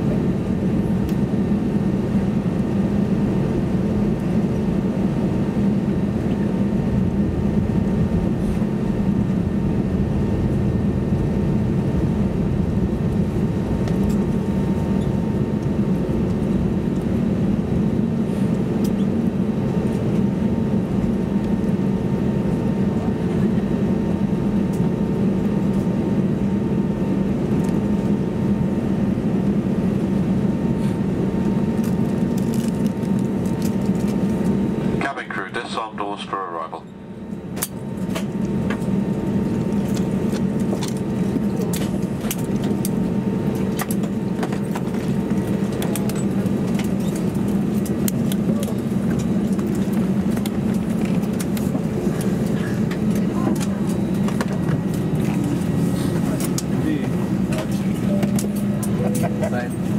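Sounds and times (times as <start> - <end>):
airplane cabin hum: 0.0 - 59.9.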